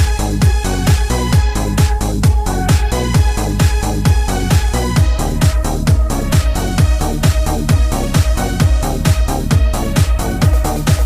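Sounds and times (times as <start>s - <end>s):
heavy kick drum: 0.0s - 11.0s.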